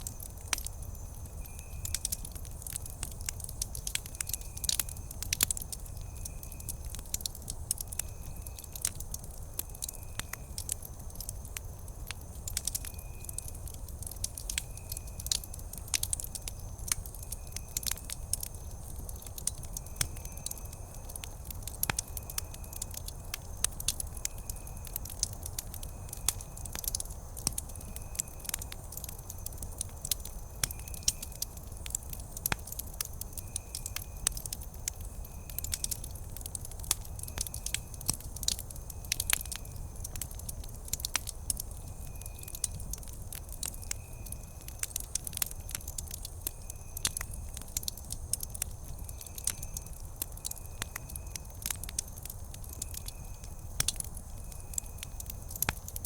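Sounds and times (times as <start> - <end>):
fire rumbling: 0.0 - 56.0
wood fire crackling and popping: 0.0 - 56.0.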